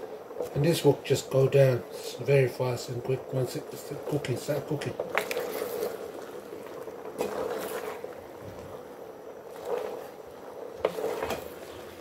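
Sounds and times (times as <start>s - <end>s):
stir-fry sizzling and bubbling: 0.0s - 12.0s
wooden spatula scraping pot: 0.0s - 12.0s.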